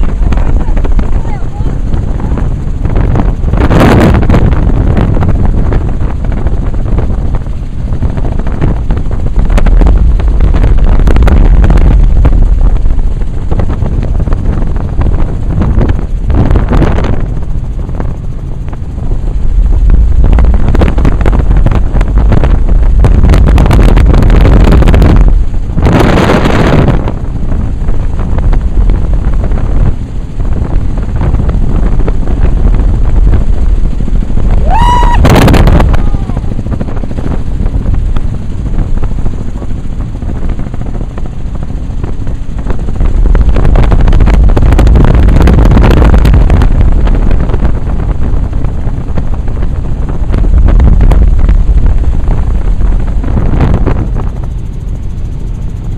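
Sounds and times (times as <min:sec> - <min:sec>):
helicopter engine and rotor rumble: 0:00.0 - 0:55.9
wind noise on microphone: 0:00.0 - 0:55.9.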